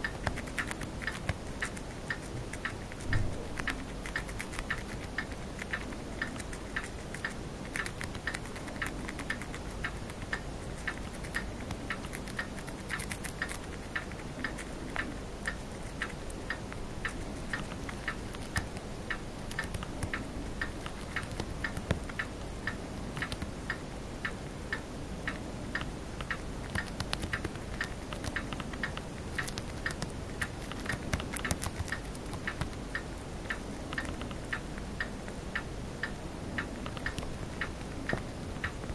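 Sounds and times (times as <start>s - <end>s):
hamster chewing a leaf: 0.0s - 23.8s, 25.3s - 34.9s, 36.0s - 38.9s.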